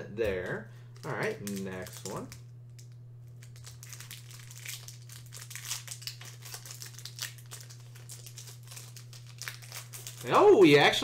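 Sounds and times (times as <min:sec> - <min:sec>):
foil wrapper crinkling: 0:01.0 - 0:11.0.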